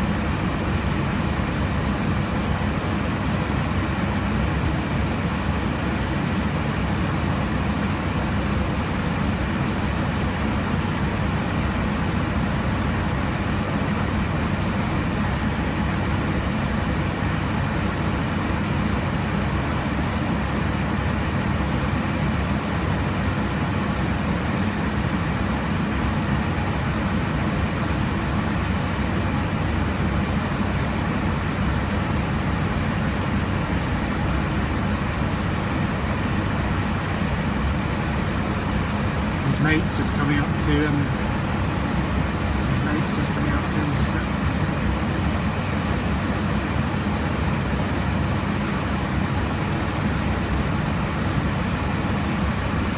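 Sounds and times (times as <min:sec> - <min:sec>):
airliner cockpit air and engine hiss: 0:00.0 - 0:52.9.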